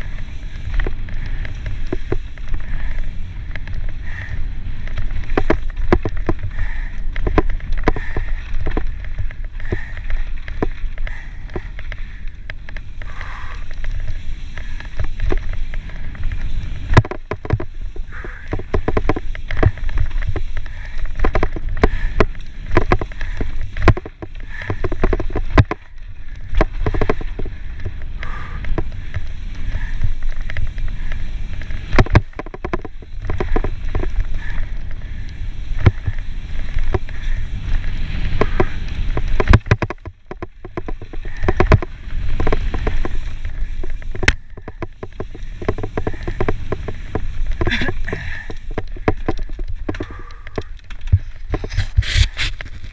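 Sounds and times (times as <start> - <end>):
bike knocks and rattles: 0.0 - 52.9
bike tyre noise: 0.0 - 52.9
wind buffeting microphone: 0.0 - 52.9.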